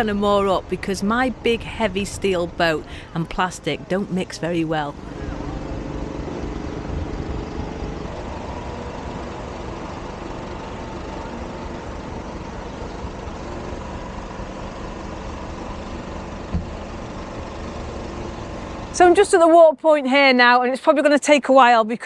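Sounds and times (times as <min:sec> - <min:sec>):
boat engine idling: 0:00.0 - 0:19.5.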